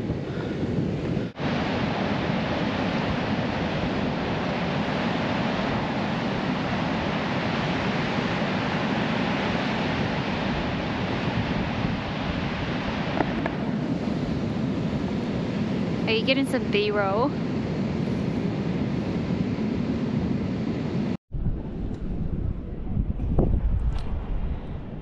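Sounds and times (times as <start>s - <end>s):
ocean surf: 0.0s - 22.7s
wind buffeting microphone: 0.0s - 25.0s.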